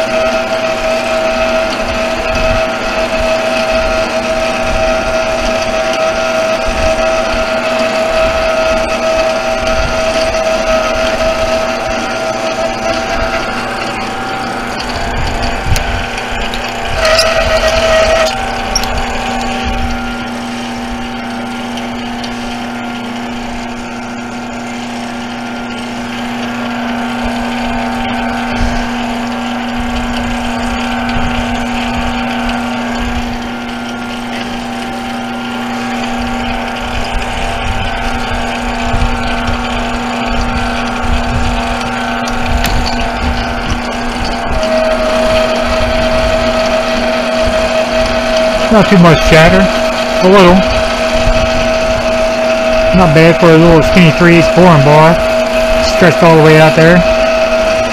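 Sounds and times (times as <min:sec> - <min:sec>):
metal lathe motor hum: 0:00.0 - 0:57.9.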